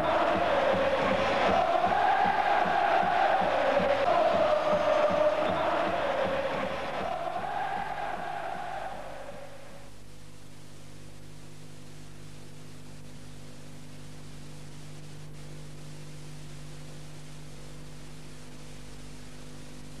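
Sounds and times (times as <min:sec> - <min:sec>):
low mains hum: 0:00.0 - 0:20.0
tape hiss: 0:00.0 - 0:20.0.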